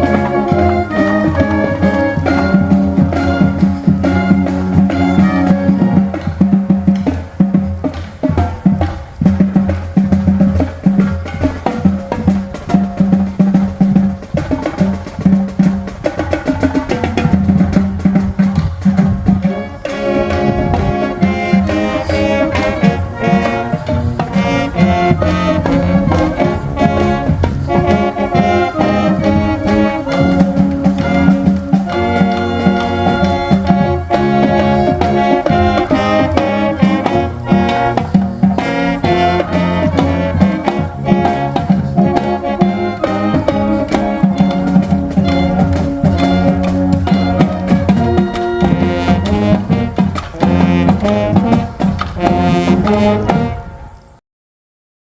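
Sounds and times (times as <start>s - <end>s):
marching band drumline beat: 0.0s - 53.7s
brass and wind sustained notes: 0.0s - 54.2s.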